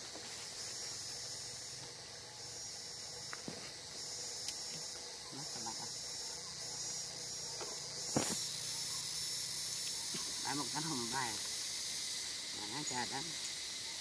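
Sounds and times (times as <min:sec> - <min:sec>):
insect chorus hissing: 0:00.0 - 0:14.0.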